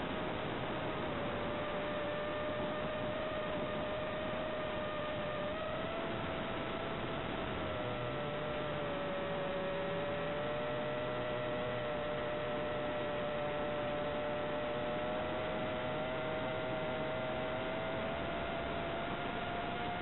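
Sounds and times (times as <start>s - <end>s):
steady electronic whine: 0.0s - 20.0s.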